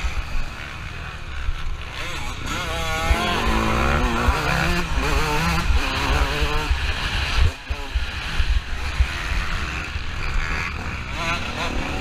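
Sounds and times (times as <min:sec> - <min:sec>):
motocross bike engine racing: 0:00.0 - 0:12.0.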